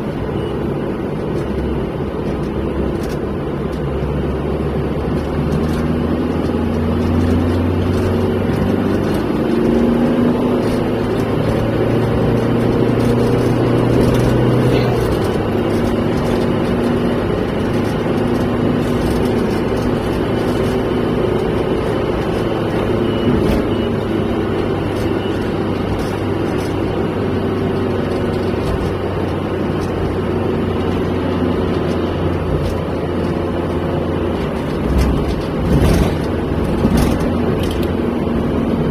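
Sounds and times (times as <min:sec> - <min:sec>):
car engine and tyre noise: 0:00.0 - 0:38.9.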